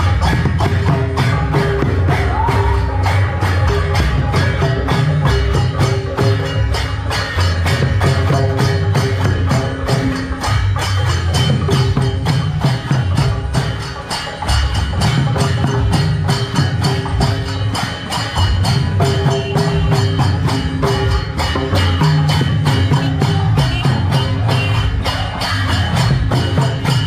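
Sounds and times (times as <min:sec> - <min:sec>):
barrel drums beating: 0:00.0 - 0:27.0
hand cymbals: 0:00.0 - 0:27.0.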